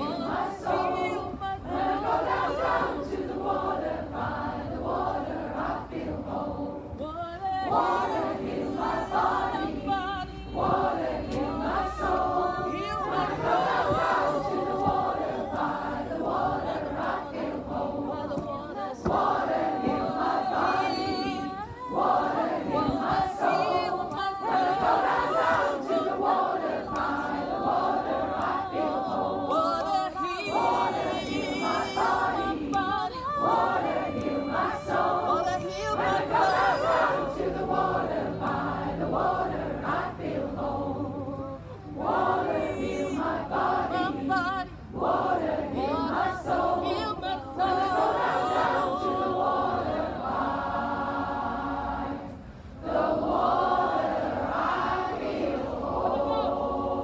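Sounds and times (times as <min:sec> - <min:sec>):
large choir singing: 0:00.0 - 0:57.0.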